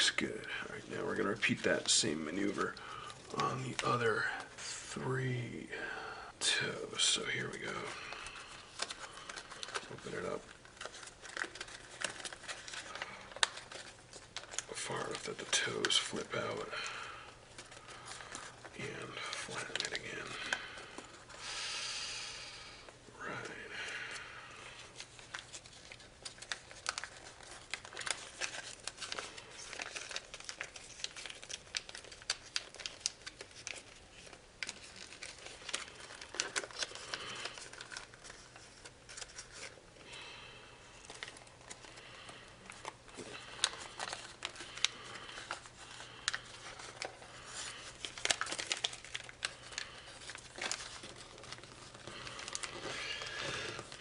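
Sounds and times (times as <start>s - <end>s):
foil paper crinkling: 0.0s - 5.4s, 6.5s - 54.0s.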